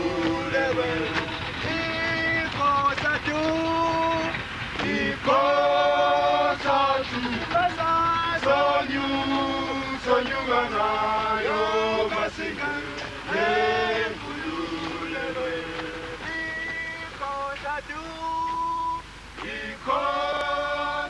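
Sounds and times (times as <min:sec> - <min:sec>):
men singing a cappella: 0:00.0 - 0:21.0.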